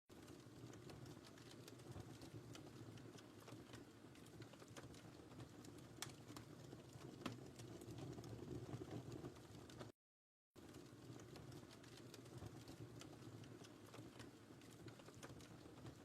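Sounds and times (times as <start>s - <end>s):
wood fire crackling: 0.1s - 10.0s, 10.6s - 16.0s.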